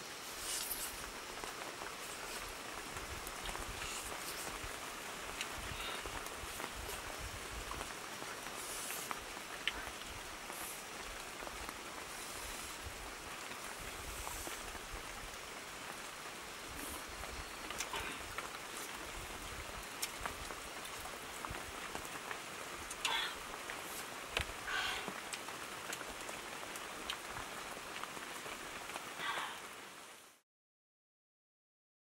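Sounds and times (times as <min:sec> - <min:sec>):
background hiss: 0:00.0 - 0:30.4.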